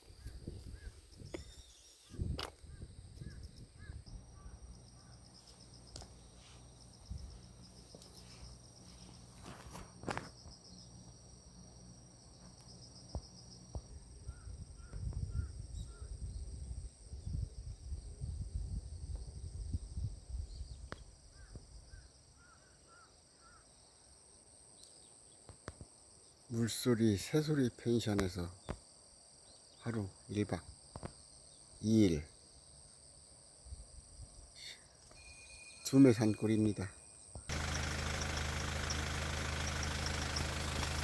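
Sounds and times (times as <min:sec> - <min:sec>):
crickets and insects chirring: 0:00.0 - 0:41.0.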